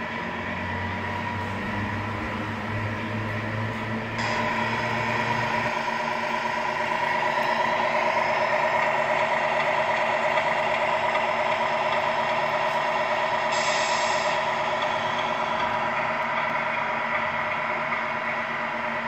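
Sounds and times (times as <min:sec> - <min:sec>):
simulated diesel engine from speaker: 0:00.0 - 0:19.0.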